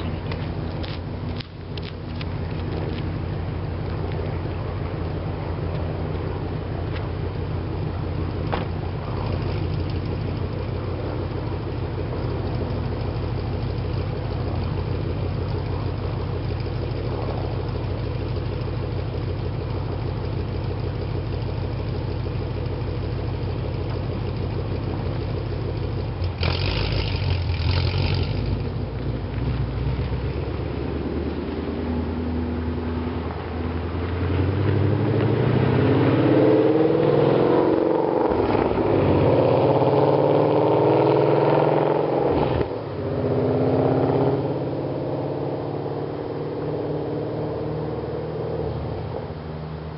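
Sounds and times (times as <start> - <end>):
car engine exhaust rumble: 0.0 - 49.9.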